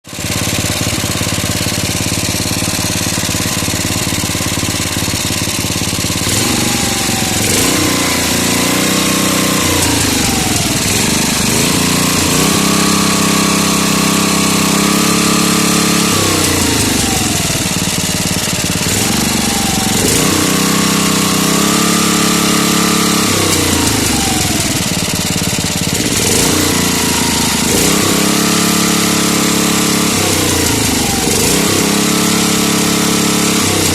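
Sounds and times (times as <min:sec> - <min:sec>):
tractor engine idling and revving: 0:00.0 - 0:33.9.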